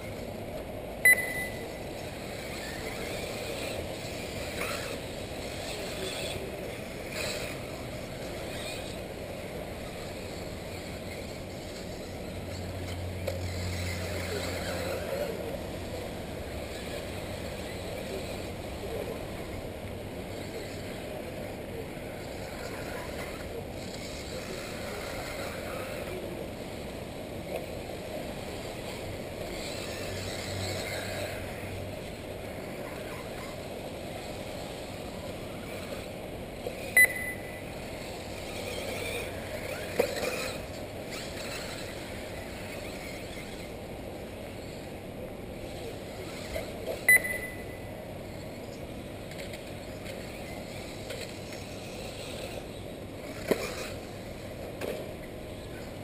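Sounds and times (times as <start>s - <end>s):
electric rc buggies running: 0.0s - 56.0s.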